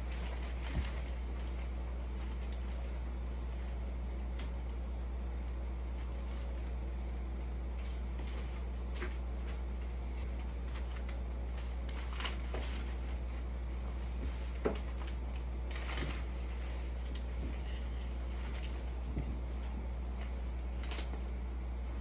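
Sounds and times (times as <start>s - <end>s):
paper rustling: 0.0s - 4.5s, 7.4s - 21.1s
steady low hum: 0.0s - 22.0s.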